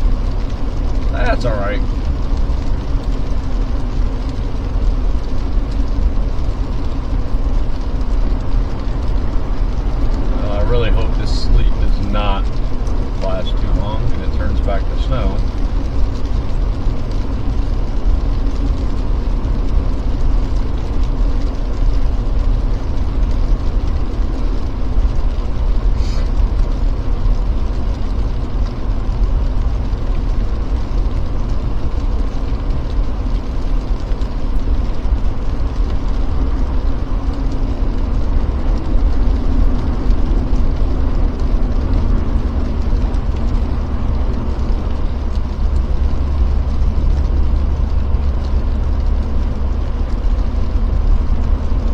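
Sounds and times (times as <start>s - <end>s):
engine and tyre rumble: 0.0s - 51.9s.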